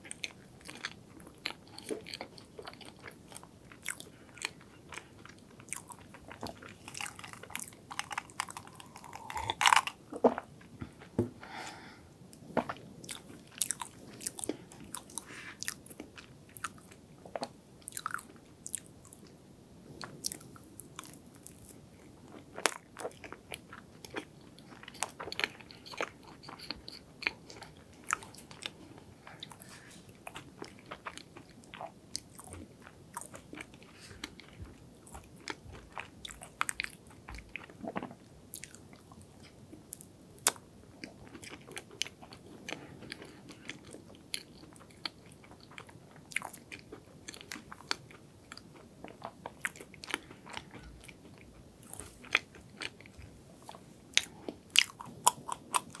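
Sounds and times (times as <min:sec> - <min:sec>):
chewing soft cake: 0:00.0 - 0:11.2, 0:12.3 - 0:56.0.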